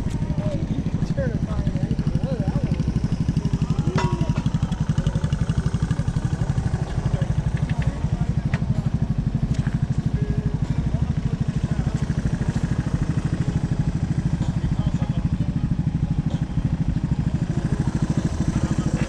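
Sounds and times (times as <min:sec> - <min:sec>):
engine running with low throb: 0:00.0 - 0:19.0.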